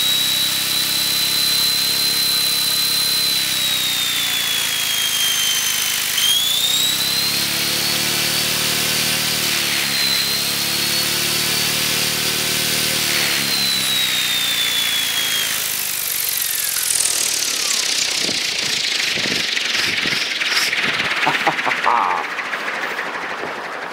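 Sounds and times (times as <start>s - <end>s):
rc helicopter electric motor whine: 0.0s - 23.9s.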